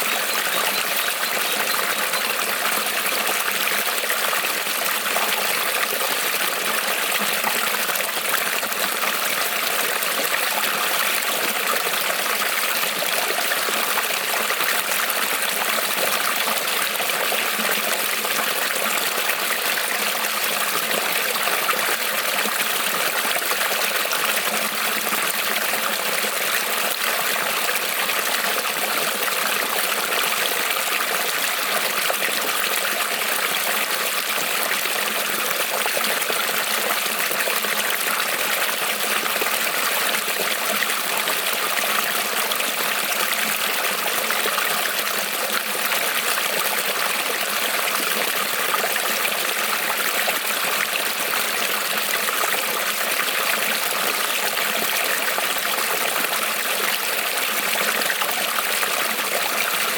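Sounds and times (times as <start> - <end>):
creek trickling over stones: 0.0 - 59.9.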